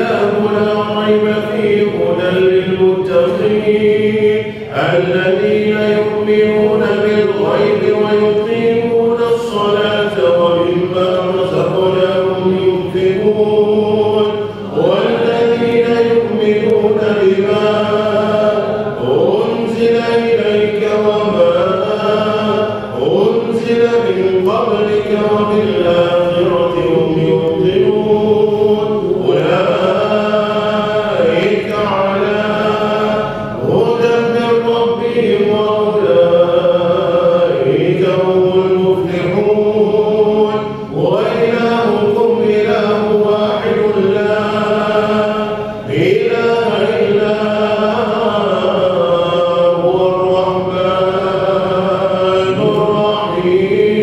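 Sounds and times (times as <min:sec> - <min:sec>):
man chanting into a microphone: 0:00.0 - 0:54.0.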